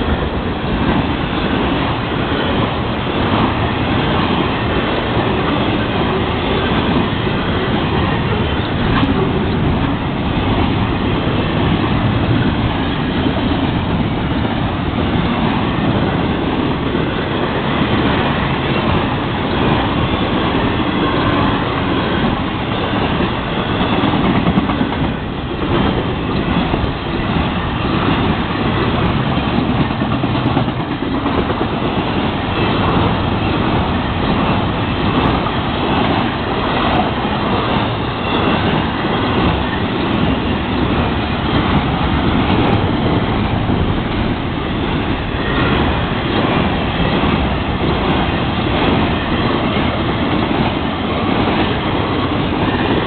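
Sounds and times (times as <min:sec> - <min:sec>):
steel train wheels on rails: 0:00.0 - 0:53.0.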